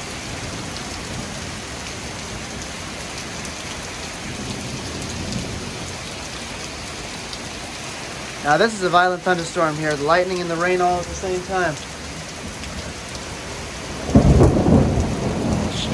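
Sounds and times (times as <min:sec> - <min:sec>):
heavy rain on pavement and cars: 0:00.0 - 0:15.9.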